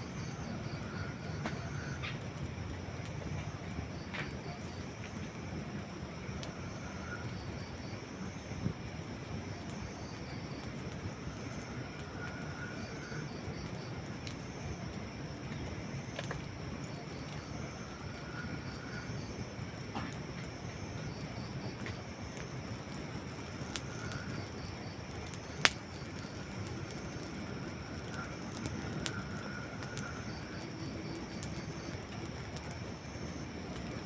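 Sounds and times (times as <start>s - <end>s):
campfire flames rushing: 0.0s - 34.0s
dry wood crackling and popping: 0.1s - 34.0s.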